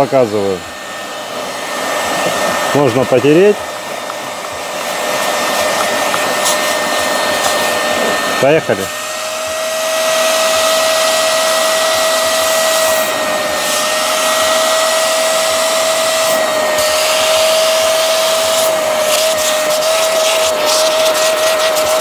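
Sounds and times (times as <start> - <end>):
extractor motor whine: 0.0 - 22.0
suction air rushing: 0.1 - 22.0.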